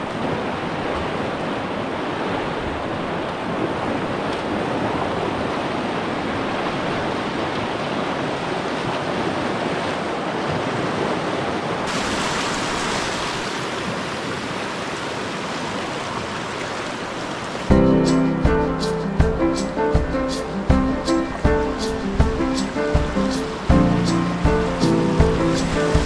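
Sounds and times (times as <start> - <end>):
river water over rapids: 0.0 - 26.0.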